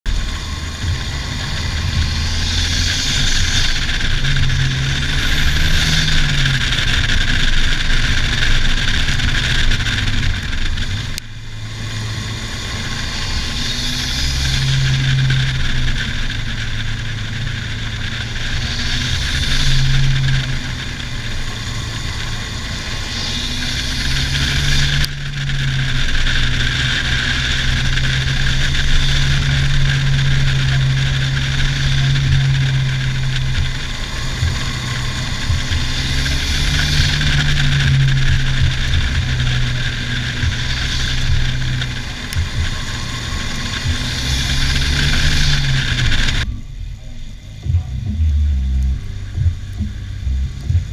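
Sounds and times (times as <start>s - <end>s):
car engine revving: 0.0s - 50.9s
road and wind noise: 0.0s - 50.9s.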